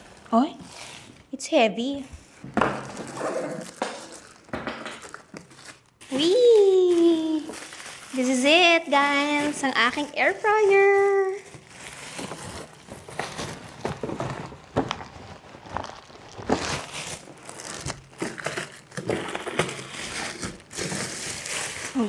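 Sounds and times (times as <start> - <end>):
plastic bag crinkling: 0.0 - 1.3, 2.7 - 22.0.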